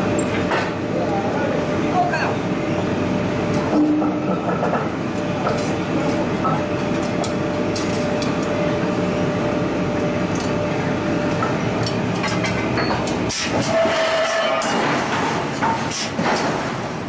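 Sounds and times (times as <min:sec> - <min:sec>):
industrial machinery noise: 0:00.0 - 0:17.0.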